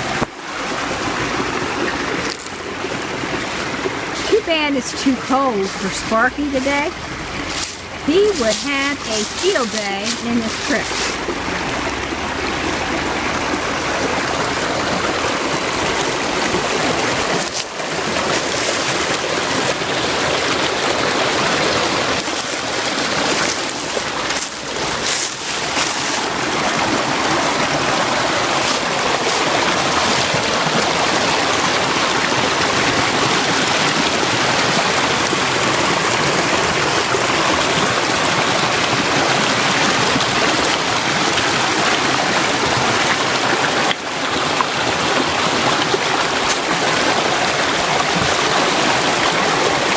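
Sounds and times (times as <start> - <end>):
creek water rushing over rocks: 0.0 - 49.9.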